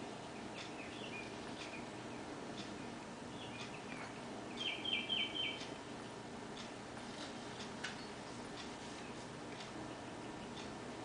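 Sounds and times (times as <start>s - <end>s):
songbirds chirping: 0.0s - 7.0s, 7.6s - 11.0s
low background noise: 0.0s - 11.0s.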